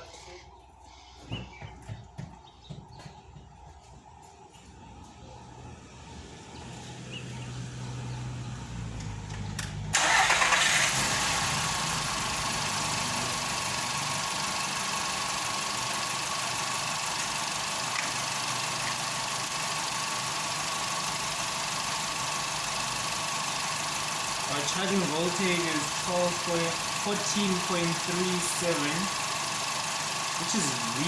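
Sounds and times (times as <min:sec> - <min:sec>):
car engine starting and idling: 0:04.9 - 0:31.0.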